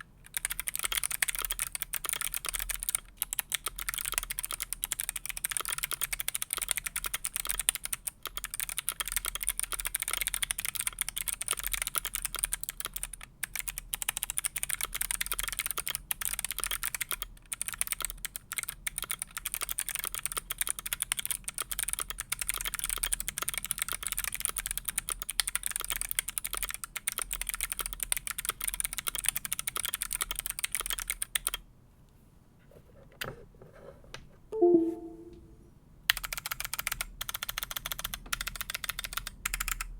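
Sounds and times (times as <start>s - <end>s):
fast typing on clicky keyboard: 0.0s - 31.6s, 36.1s - 39.9s.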